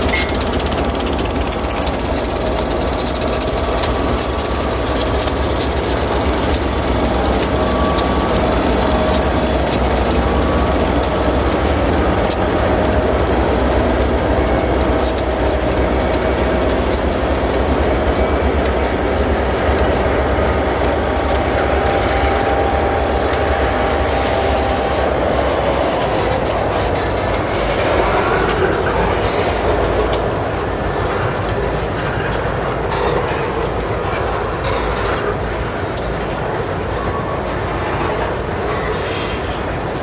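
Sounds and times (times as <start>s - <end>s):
diesel locomotives passing: 0.0s - 34.7s
wheels clacking over rail joints: 0.0s - 40.0s.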